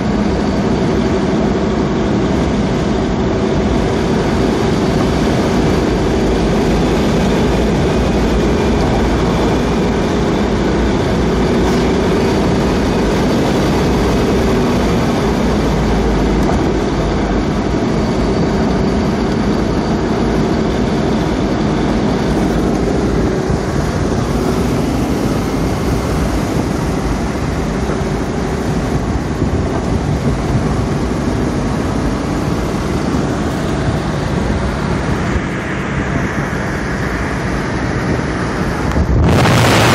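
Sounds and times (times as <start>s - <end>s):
car engine running: 0.0s - 39.9s
wind rush: 0.0s - 39.9s.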